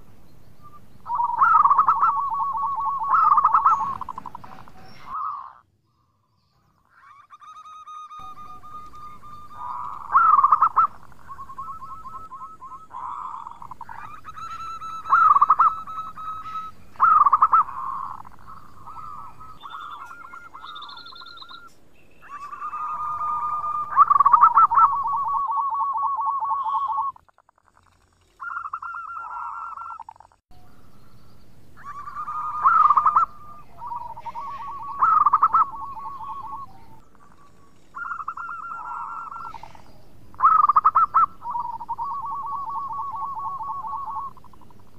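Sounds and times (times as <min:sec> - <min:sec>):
dove cooing: 0:00.7 - 0:05.6, 0:07.0 - 0:27.2, 0:31.8 - 0:44.9.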